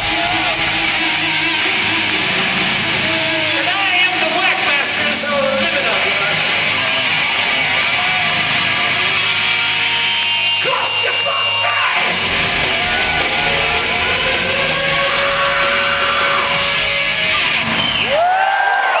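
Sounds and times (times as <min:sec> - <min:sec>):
distorted electric guitar: 0:00.0 - 0:18.1
drums: 0:00.0 - 0:19.0.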